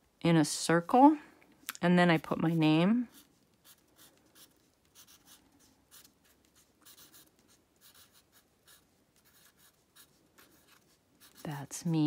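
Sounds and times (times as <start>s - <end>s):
marker scratching on wood: 2.2s - 12.0s.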